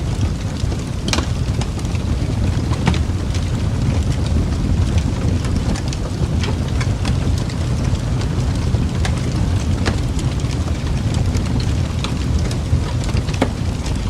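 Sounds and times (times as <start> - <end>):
flames roaring low: 0.0 - 14.0
wood fire crackling: 0.0 - 14.0.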